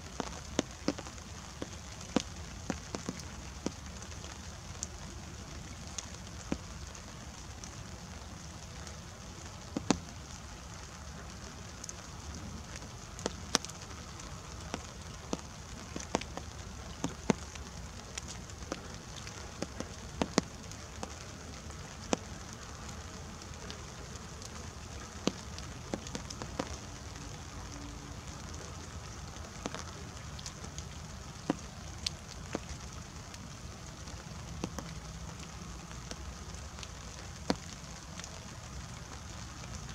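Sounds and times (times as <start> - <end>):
rain drips: 0.0 - 39.9
soft rain hiss: 0.0 - 39.9.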